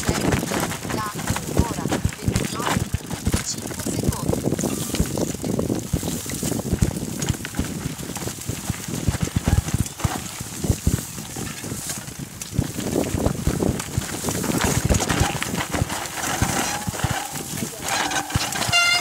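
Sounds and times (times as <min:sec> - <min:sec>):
bike rattling over bumps: 0:00.0 - 0:19.0.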